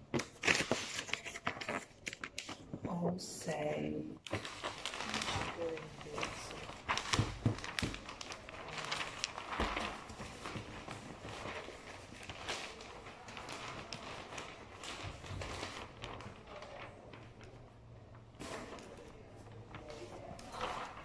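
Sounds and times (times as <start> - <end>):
wrapping paper rustling: 0.0 - 21.0.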